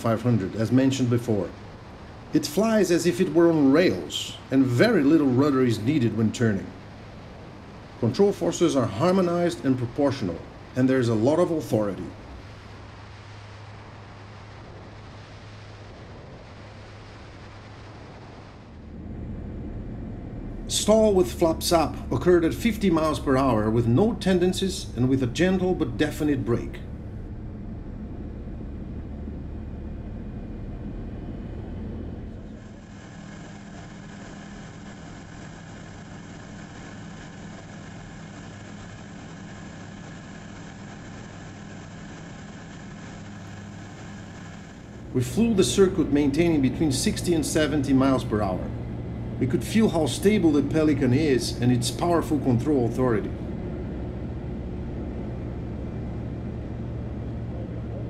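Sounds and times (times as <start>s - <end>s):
airflow noise: 0.0s - 58.0s
light aircraft engine drone: 0.0s - 58.0s.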